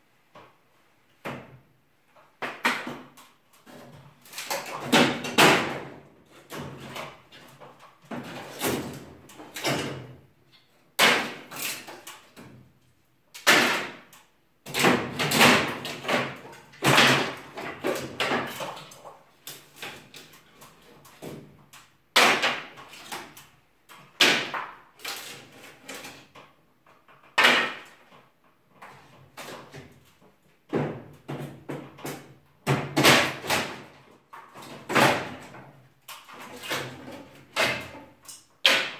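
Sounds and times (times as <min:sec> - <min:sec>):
wooden boards banging and cracking: 0:02.4 - 0:10.3, 0:10.9 - 0:12.7, 0:13.4 - 0:38.9.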